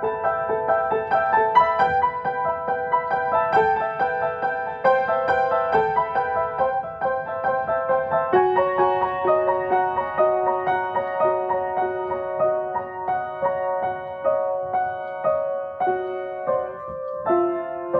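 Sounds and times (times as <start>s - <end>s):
piano improvisation: 0.0s - 17.9s.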